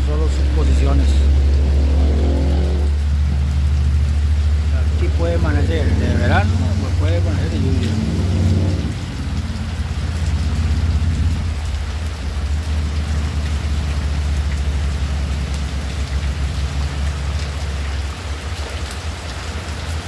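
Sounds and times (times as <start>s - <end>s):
low rumble: 0.0s - 17.9s
heavy rain on roof: 0.0s - 20.0s
water streaming off roof: 0.0s - 20.0s.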